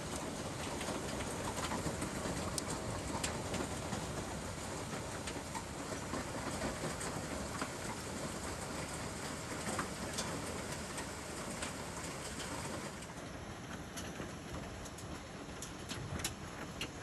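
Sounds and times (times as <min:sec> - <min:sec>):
hail and rain hissing: 0:00.0 - 0:17.0
hailstones ticking on roof tiles: 0:00.0 - 0:17.0.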